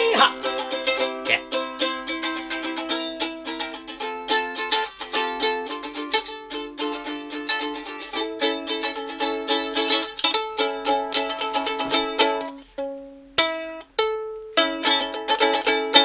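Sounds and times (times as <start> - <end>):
ukulele strumming chords: 0.0 - 16.0.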